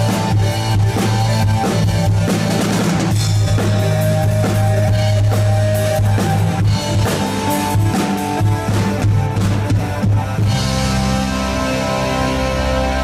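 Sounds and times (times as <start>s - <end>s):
bass guitar: 0.0s - 13.0s
guitar: 0.0s - 13.0s.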